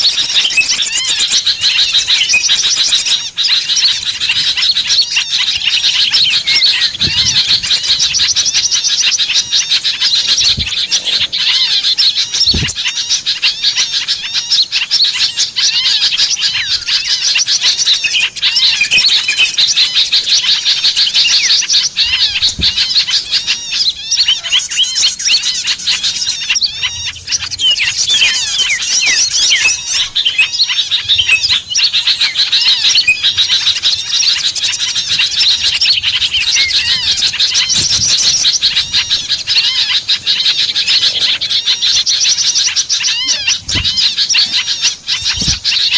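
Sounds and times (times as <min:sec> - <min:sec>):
songbirds chirping and twittering: 0:00.0 - 0:45.9.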